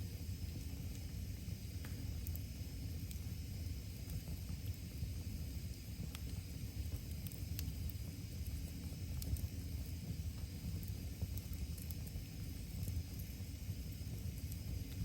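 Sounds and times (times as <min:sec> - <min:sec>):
constant low rumble: 0:00.0 - 0:15.0
wood fire crackling: 0:00.0 - 0:15.0.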